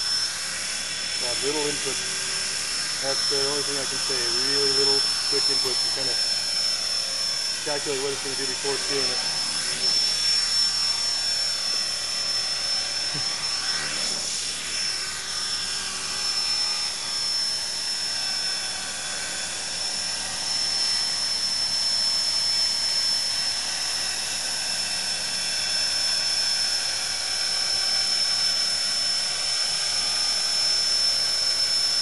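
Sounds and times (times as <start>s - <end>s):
rc helicopter hovering: 0.0s - 32.0s.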